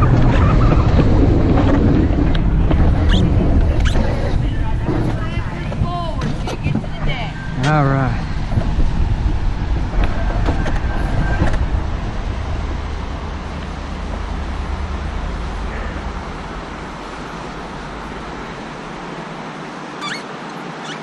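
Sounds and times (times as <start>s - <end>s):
coaster cart rumbling on rail: 0.0s - 21.0s.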